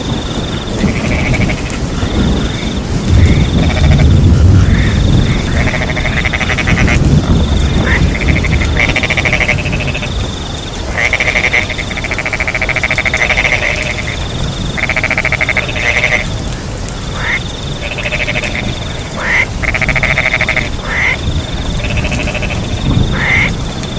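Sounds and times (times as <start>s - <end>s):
cricket trill: 0.0s - 23.9s
frogs croaking: 0.0s - 23.9s.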